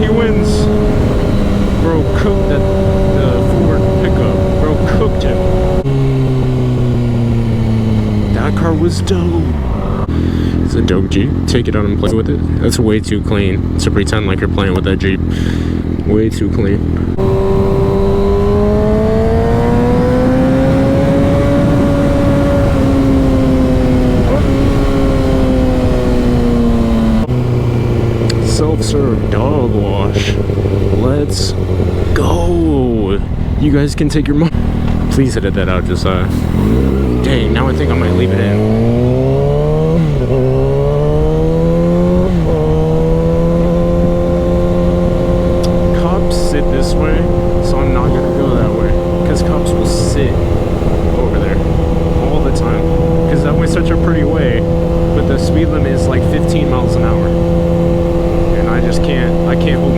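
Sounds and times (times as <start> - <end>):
motorcycle engine pulling: 0.0 - 59.9
wind and road noise: 0.0 - 59.9.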